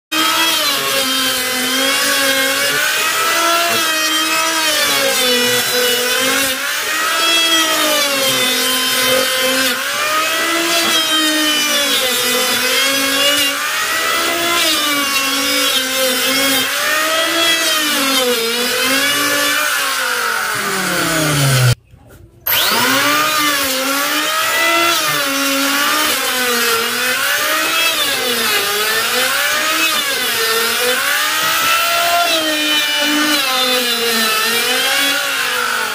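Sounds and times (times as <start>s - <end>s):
electric planer whining: 0.2s - 21.8s, 22.5s - 35.9s.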